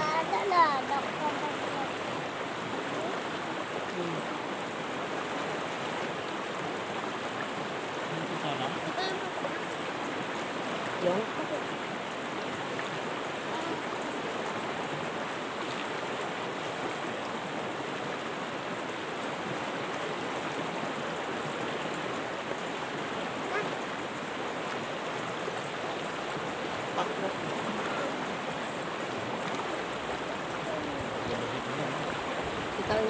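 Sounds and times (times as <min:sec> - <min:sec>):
river water rushing over rocks: 0:00.0 - 0:33.0.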